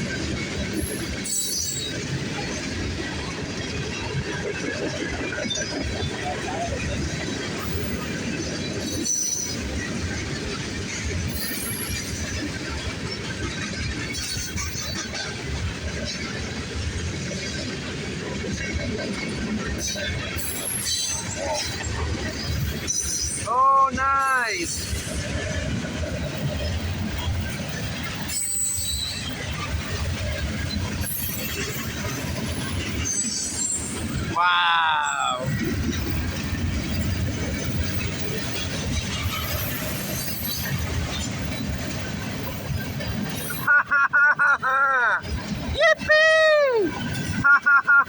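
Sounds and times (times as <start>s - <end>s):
freight train wheels rumbling: 0.0s - 48.0s.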